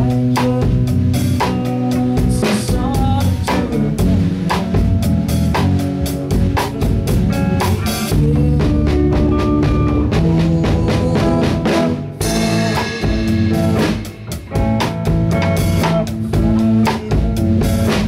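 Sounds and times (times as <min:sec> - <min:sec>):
drum kit beat: 0:00.0 - 0:18.0
electric bass: 0:00.0 - 0:18.0
electric guitar: 0:00.0 - 0:18.0.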